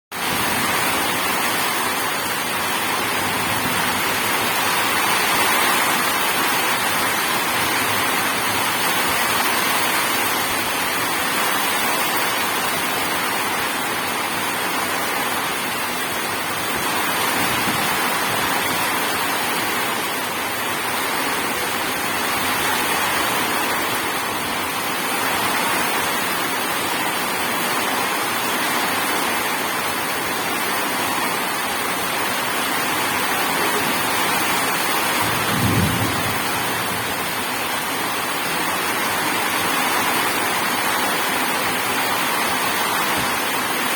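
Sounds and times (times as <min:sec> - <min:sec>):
heavy rainfall: 0:00.1 - 0:43.9.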